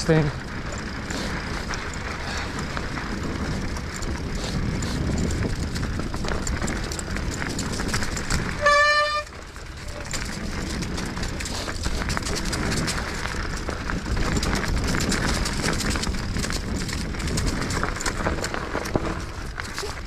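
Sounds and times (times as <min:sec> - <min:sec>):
bike tyres rolling and rattling: 0:00.0 - 0:20.0
brakes squealing: 0:00.0 - 0:20.0.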